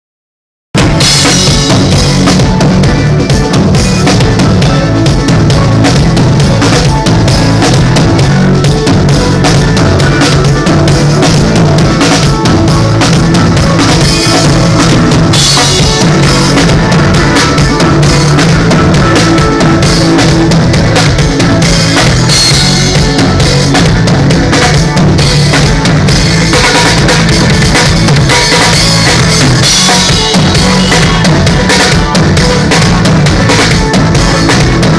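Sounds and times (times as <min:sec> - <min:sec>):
heavy drum beat: 0:00.8 - 0:34.9
loud amplified music: 0:00.8 - 0:34.9
strong bass line: 0:00.8 - 0:34.9.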